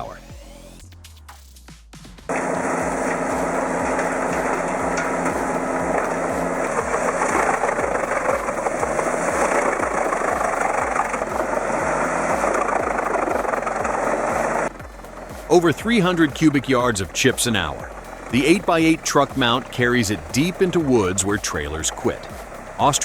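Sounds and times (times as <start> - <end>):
wood chipper grinding wood: 2.3 - 23.0.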